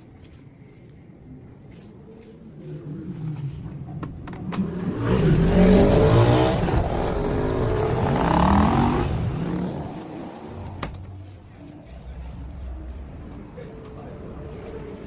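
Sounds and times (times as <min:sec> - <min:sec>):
vehicle engine passing by: 0:02.6 - 0:15.0.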